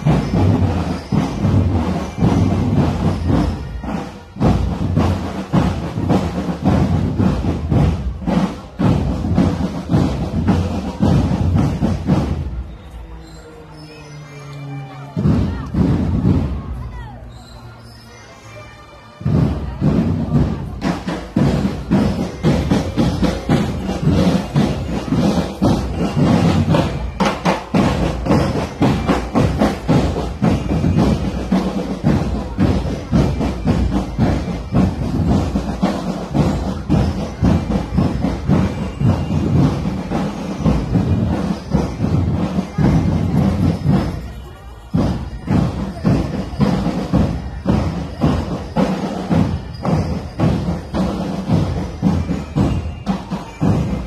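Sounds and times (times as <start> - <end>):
marching drum cadence: 0.0 - 13.0, 15.1 - 17.3, 19.2 - 54.0.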